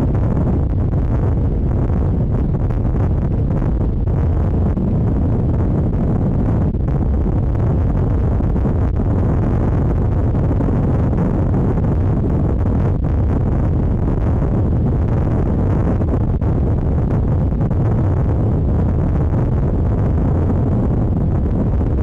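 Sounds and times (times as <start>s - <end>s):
vehicle engine and road rumble: 0.0s - 22.0s
wind buffeting microphone: 0.0s - 22.0s.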